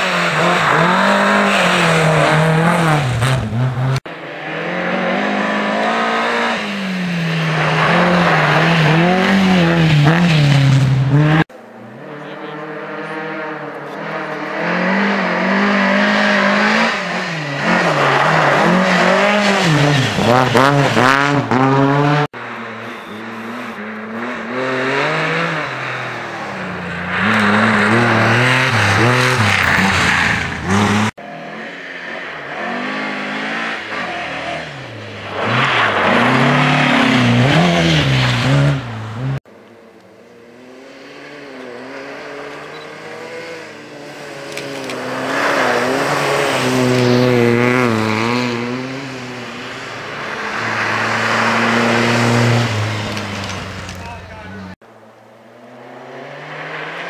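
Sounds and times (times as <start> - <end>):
rally car engines passing: 0.0 - 57.0.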